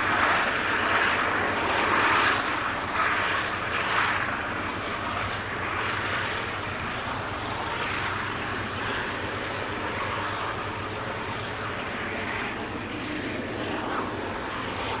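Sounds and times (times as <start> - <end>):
diesel locomotives under heavy load: 0.0 - 15.0.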